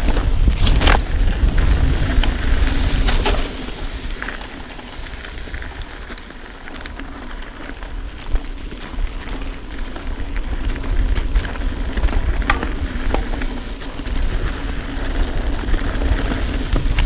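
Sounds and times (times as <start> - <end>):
wind buffeting microphone: 0.0 - 6.4, 7.7 - 17.0
bike knocks and rattles: 0.0 - 17.0
tyre noise on rocky trail: 0.0 - 17.0.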